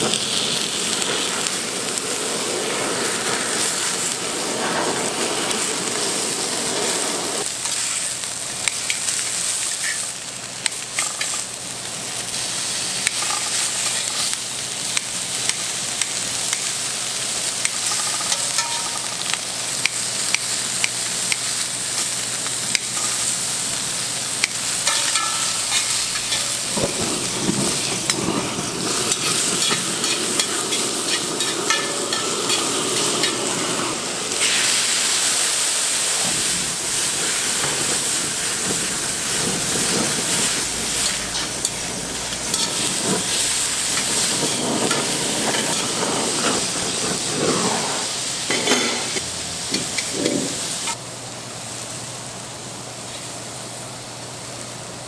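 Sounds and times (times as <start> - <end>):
beef sizzling on grill: 0.0 - 55.0.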